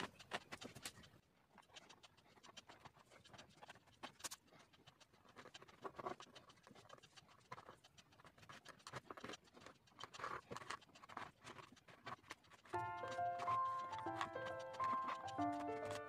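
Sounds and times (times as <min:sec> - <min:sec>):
toothpick scratching paper: 0:00.0 - 0:16.0.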